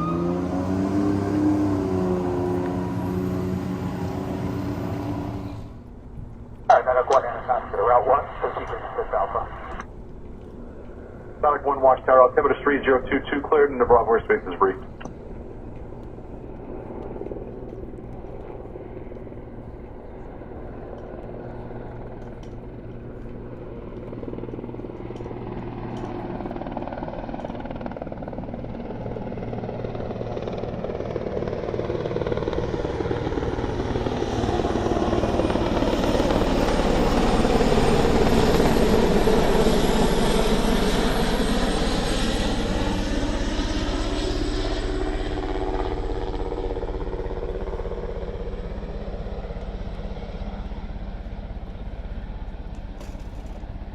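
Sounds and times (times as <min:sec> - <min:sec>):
helicopter rotor noise: 0:00.0 - 0:53.9.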